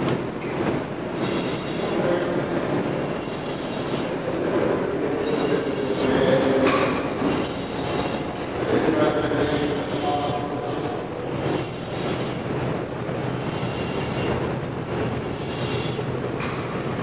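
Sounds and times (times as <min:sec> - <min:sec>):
loud machinery noise: 0:00.0 - 0:17.0.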